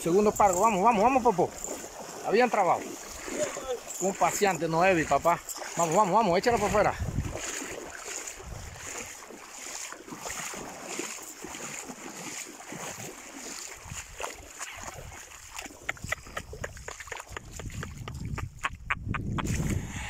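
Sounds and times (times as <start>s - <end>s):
fish dragged through shallow water: 0.0s - 17.9s
footsteps splashing through water: 0.0s - 19.9s
water churning around legs: 0.0s - 20.0s.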